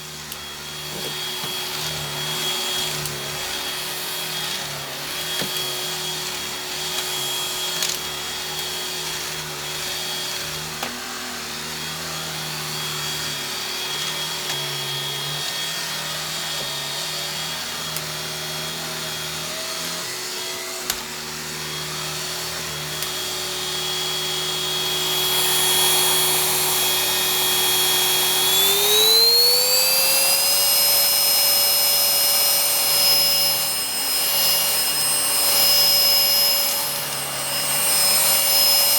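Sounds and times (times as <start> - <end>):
stick vacuum motor whine: 0.0 - 38.9.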